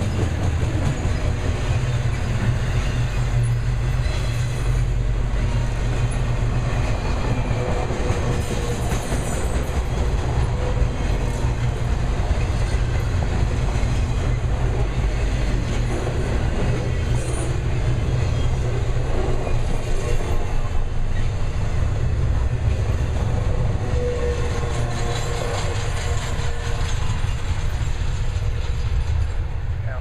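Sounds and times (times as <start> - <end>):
freight train wheels rumbling: 0.0 - 30.0
rail clickety-clack: 0.0 - 30.0.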